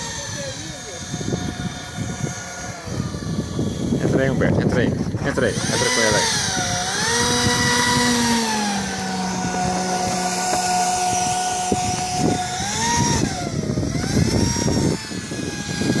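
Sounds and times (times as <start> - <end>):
electric ducted fan whining: 0.0 - 16.0.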